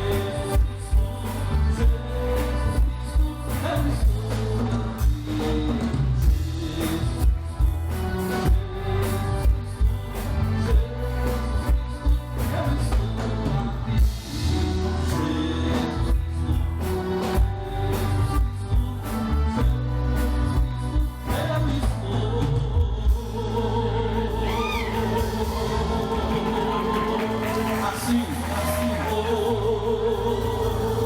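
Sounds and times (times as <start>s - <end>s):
live band music: 0.0s - 31.0s
man singing worship song: 0.0s - 31.0s.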